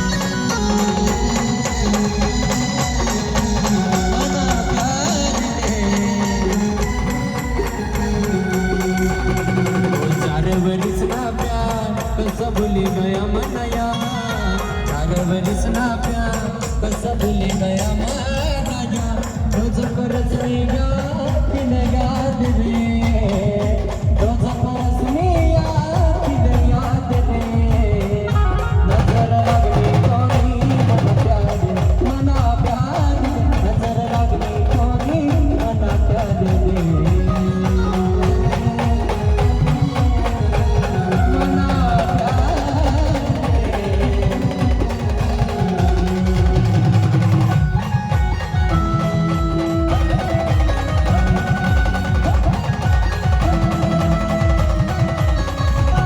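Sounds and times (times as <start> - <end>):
band instrumental melody: 0.0 - 56.0
driving drum beat: 0.0 - 56.0.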